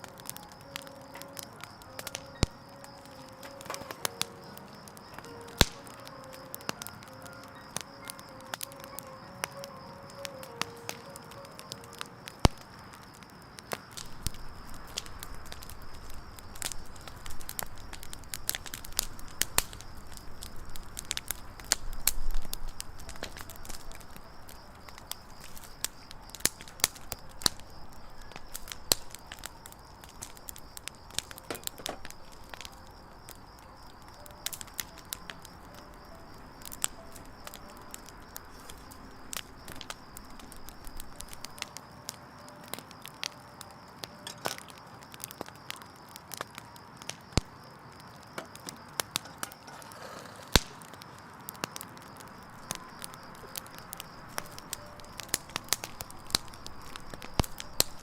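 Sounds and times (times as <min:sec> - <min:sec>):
campfire crackling and popping: 0:00.0 - 0:58.0
soft hiss of flames: 0:00.0 - 0:58.0.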